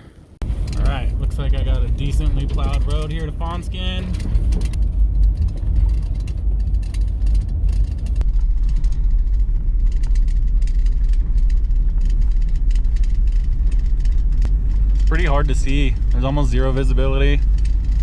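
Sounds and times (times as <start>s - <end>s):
van engine and road rumble: 0.0s - 18.0s.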